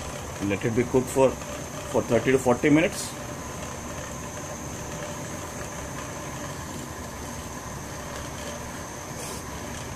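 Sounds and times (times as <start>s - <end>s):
gas stove burner rumble: 0.0s - 9.9s.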